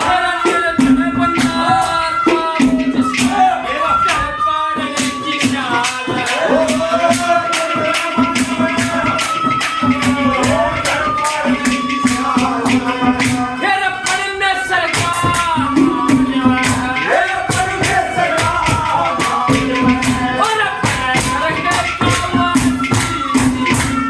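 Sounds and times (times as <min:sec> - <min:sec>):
bright high percussion: 0:00.0 - 0:24.0
wavering folk melody: 0:00.0 - 0:24.0.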